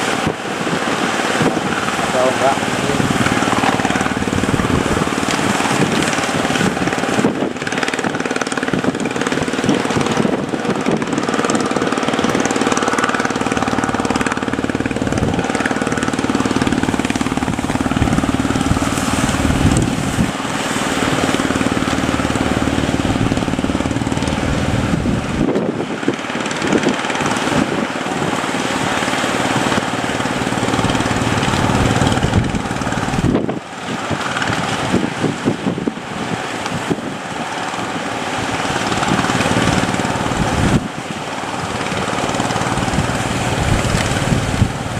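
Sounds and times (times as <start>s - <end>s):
boat engine running: 0.0s - 44.9s
continuous rushing noise: 0.0s - 44.9s.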